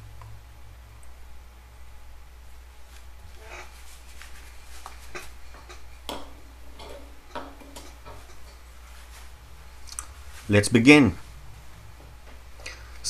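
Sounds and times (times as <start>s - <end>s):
low steady hum: 0.0s - 13.0s
work gloves rustling: 2.3s - 13.0s.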